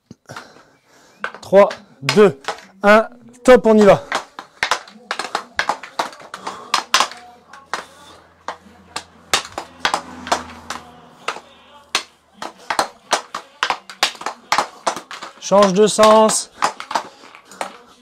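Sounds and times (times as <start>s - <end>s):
hockey stick clacking puck on board: 1.2s - 2.7s, 3.7s - 18.0s.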